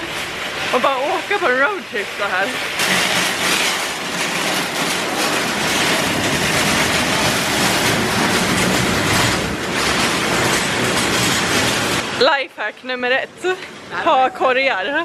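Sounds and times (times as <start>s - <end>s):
shopping trolley rattling: 0.0s - 12.4s.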